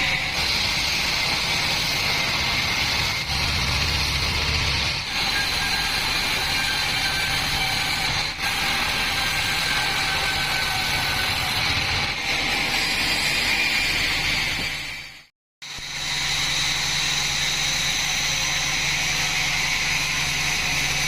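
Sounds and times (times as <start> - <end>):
bandsaw mill whining: 0.0 - 21.0.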